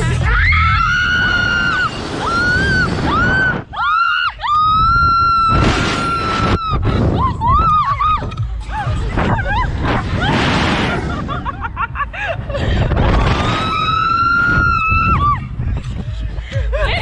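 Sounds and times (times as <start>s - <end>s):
wind rushing past microphone: 0.7s - 17.0s.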